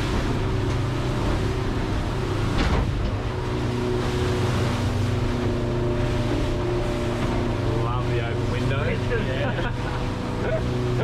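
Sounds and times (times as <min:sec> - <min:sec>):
motorboat engine running: 0:00.0 - 0:11.0
water rushing over hull: 0:00.0 - 0:11.0
wave hitting boat: 0:00.0 - 0:11.0.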